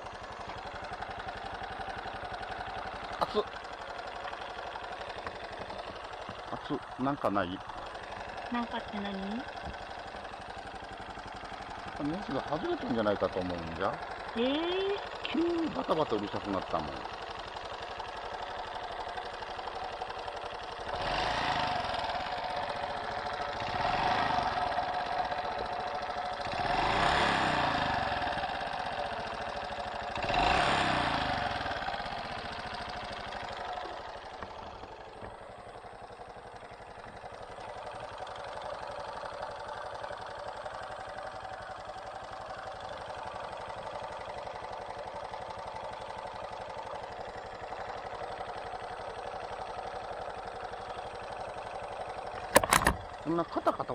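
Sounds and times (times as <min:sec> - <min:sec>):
motorcycle engine clattering: 0:00.0 - 0:53.7.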